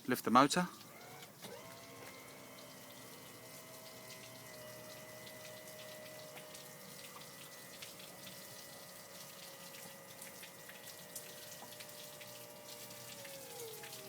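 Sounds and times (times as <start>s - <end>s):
water trickling and dripping: 0.0s - 14.0s.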